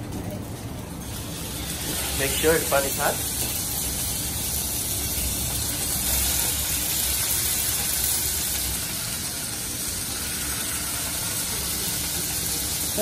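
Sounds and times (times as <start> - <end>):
chicken sizzling in hot oil: 1.0 - 13.0.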